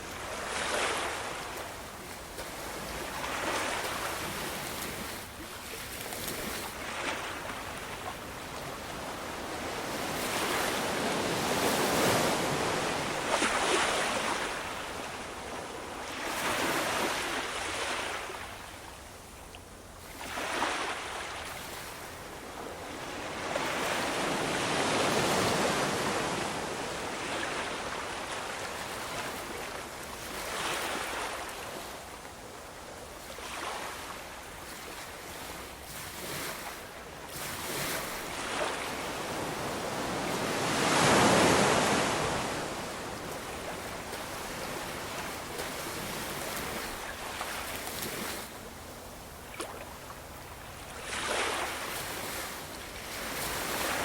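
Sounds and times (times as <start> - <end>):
ocean waves breaking on shore: 0.0 - 19.0, 20.0 - 54.0.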